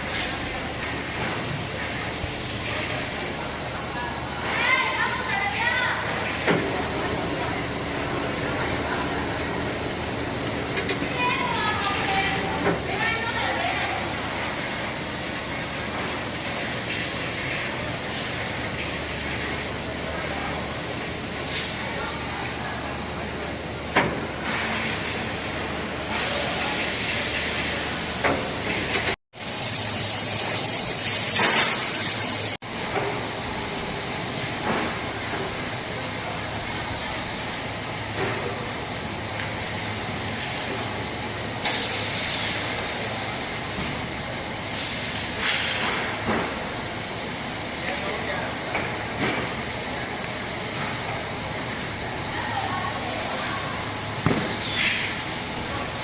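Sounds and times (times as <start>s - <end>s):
factory machinery hiss and hum: 0.0s - 56.0s.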